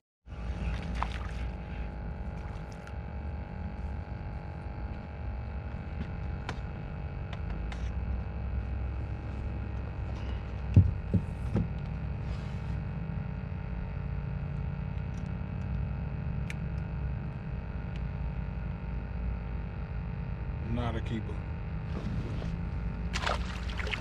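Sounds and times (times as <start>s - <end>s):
electric boat motor humming: 0.3s - 24.0s.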